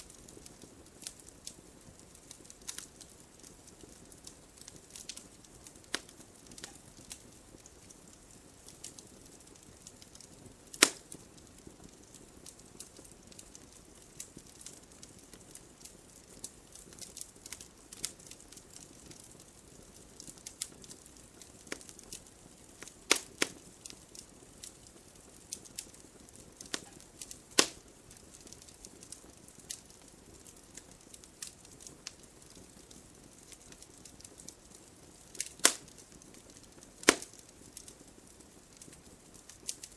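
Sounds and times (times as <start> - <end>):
campfire crackling: 0.0 - 39.9
faint steady hiss: 0.0 - 39.9.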